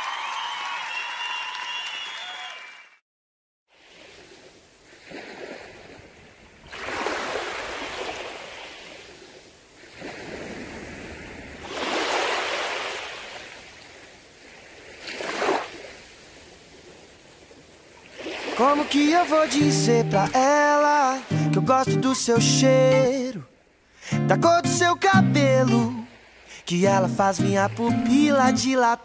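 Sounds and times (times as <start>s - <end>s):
ocean waves breaking on shore: 3.7s - 29.0s.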